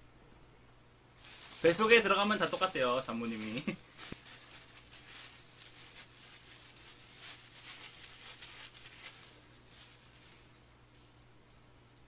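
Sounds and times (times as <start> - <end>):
low steady hum: 0.0 - 12.0
plastic bag crinkling: 1.2 - 11.3.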